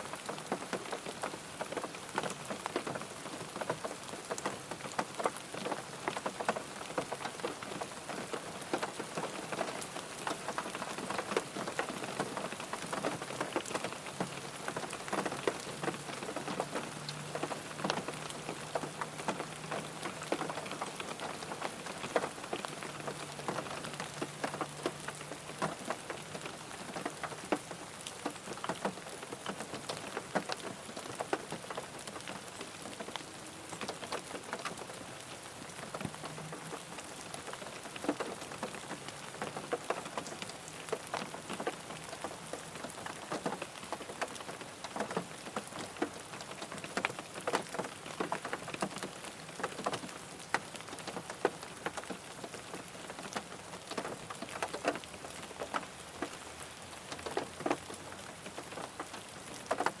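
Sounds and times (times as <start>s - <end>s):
rain hiss: 0.0s - 60.0s
raindrops tapping on car: 0.3s - 35.0s, 35.8s - 60.0s.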